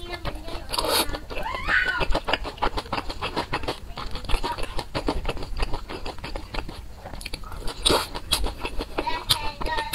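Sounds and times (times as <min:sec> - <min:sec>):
chewing and mouth sounds: 0:00.0 - 0:09.9.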